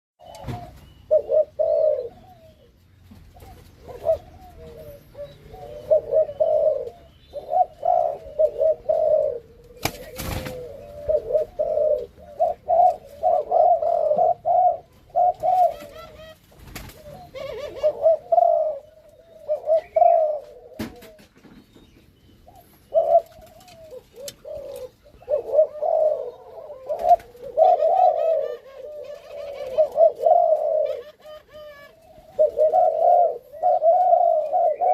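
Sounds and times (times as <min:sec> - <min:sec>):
doves cooing: 0:00.2 - 0:34.9.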